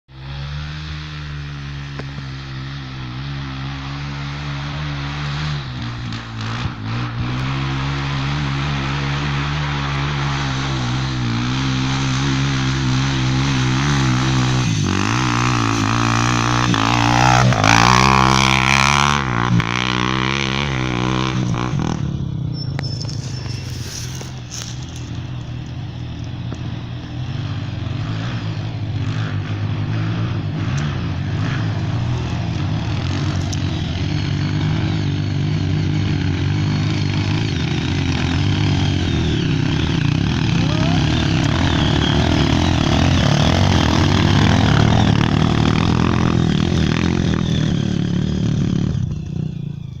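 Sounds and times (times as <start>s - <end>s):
motorcycle engine pulling under load: 0.2s - 50.0s.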